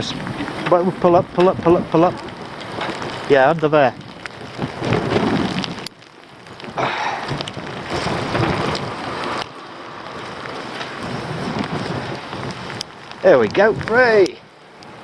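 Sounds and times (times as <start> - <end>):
rain pattering: 0.0 - 15.0
wind noise on microphone: 0.0 - 15.0.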